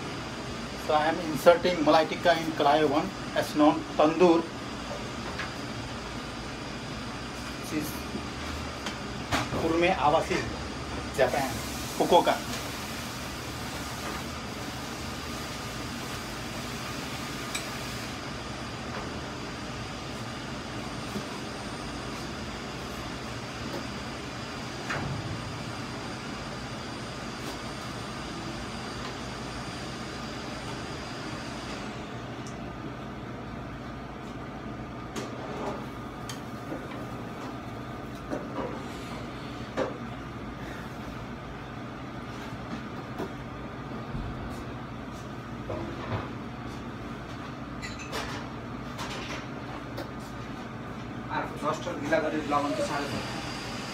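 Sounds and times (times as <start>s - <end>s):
rushing roar of oven: 0.0s - 42.6s, 51.2s - 53.9s.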